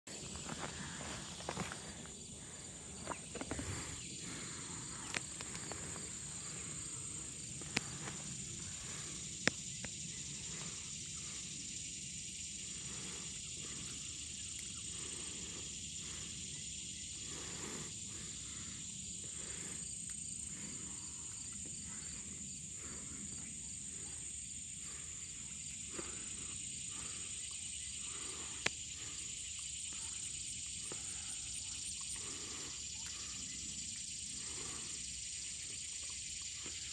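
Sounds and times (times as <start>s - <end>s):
insects trilling: 0.1s - 36.9s.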